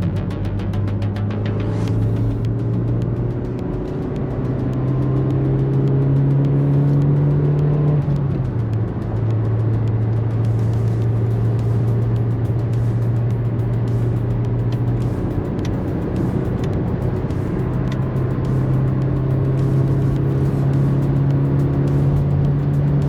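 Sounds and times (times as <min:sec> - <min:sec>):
car engine drone in cabin: 0:00.0 - 0:23.0.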